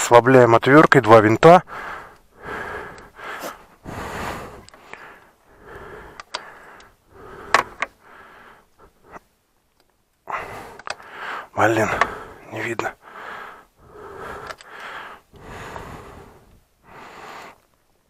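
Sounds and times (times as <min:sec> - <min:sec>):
heavy breathing: 0:01.6 - 0:09.4, 0:10.2 - 0:17.8.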